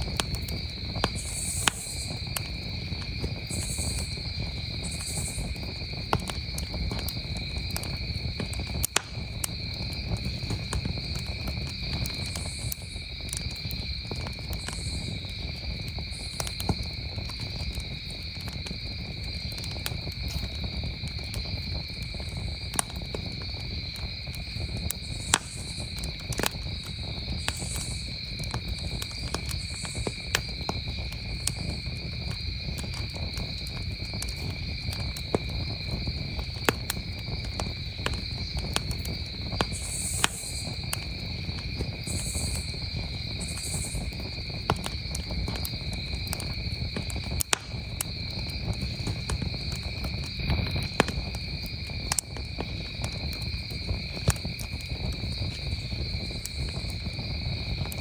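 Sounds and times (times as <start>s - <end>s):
campfire crackling and popping: 0.0s - 58.0s
crickets trilling: 0.0s - 58.0s.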